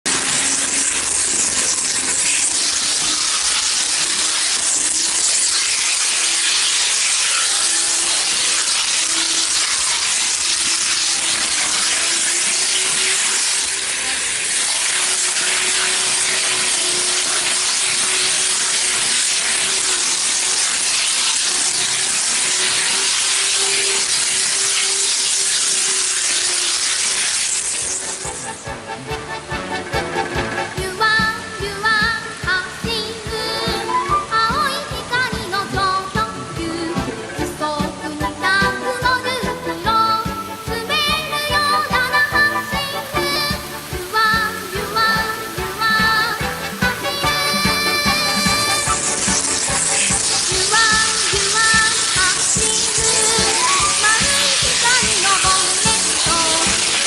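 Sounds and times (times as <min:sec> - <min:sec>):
model train wheels hissing on rails: 0:00.1 - 0:57.0.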